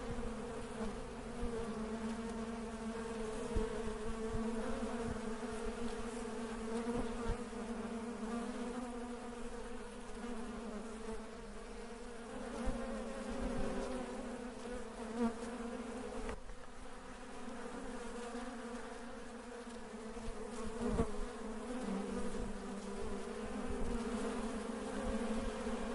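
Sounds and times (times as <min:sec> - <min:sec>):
honey bees buzzing: 0:00.0 - 0:25.9.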